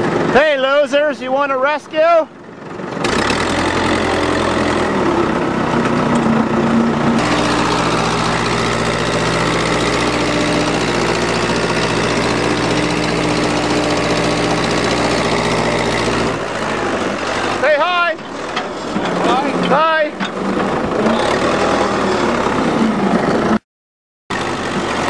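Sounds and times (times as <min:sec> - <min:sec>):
tractor engine running: 0:00.0 - 0:23.6, 0:24.3 - 0:25.0.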